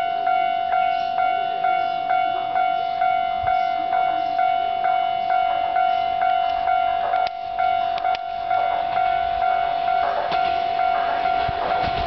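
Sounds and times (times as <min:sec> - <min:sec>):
level-crossing warning bell ringing: 0:00.0 - 0:12.0.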